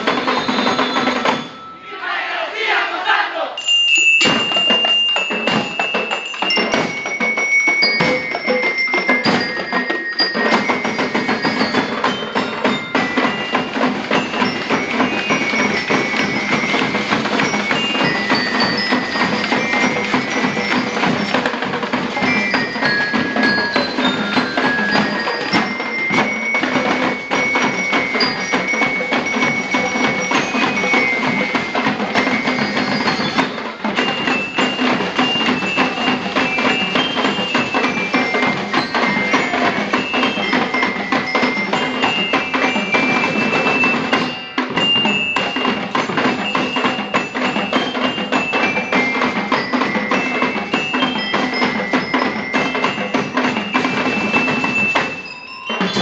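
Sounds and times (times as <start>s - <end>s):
snare and bass drums: 0.0s - 1.7s, 4.2s - 56.0s
bell lyre melody: 0.0s - 1.9s, 3.6s - 56.0s.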